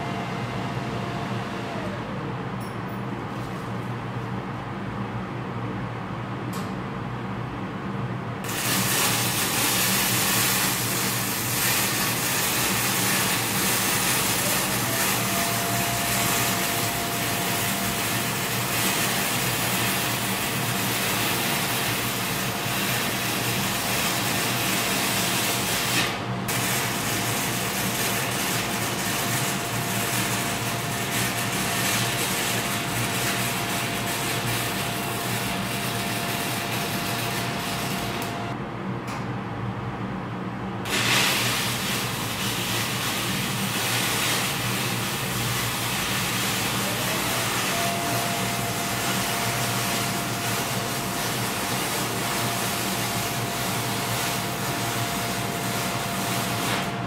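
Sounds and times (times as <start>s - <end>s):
welding arc crackling and hissing: 8.4s - 38.6s, 40.9s - 57.0s.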